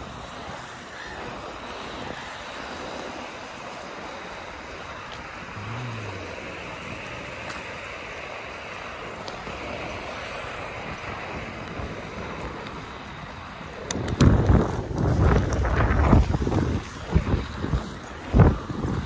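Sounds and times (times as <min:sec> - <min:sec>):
skate wheels rolling on wet asphalt: 0:00.0 - 0:19.0
wind buffeting microphone: 0:00.0 - 0:19.0.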